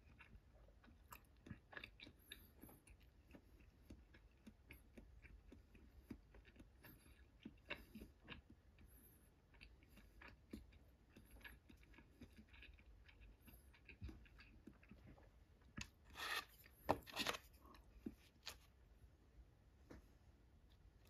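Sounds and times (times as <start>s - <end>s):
quiet chewing: 0.0s - 18.8s.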